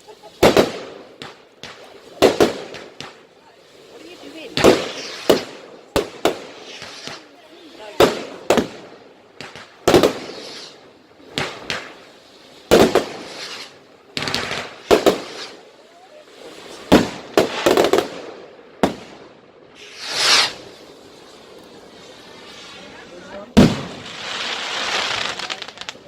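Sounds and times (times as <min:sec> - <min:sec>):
fireworks bangs: 0:00.0 - 0:26.0
rising firework hiss: 0:00.0 - 0:26.0.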